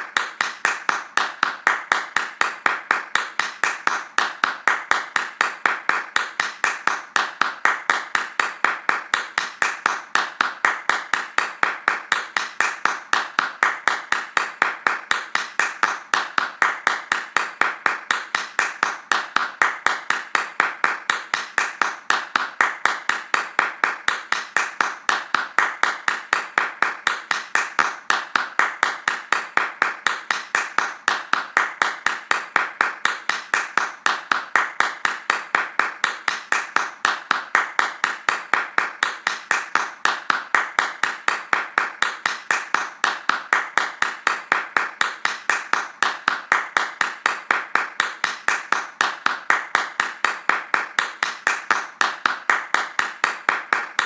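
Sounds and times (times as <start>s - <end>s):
hands clapping rhythmically: 0.0s - 54.0s.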